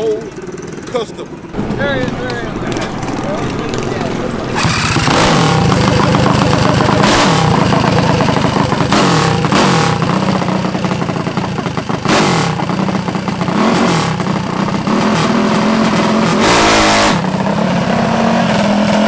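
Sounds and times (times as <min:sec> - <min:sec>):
small gas engine revving: 0:00.0 - 0:19.0.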